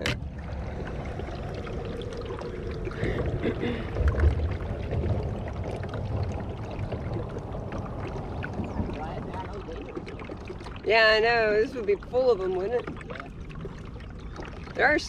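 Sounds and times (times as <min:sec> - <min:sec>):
low rumble: 0:00.0 - 0:15.0
paddle splashing water: 0:00.0 - 0:15.0.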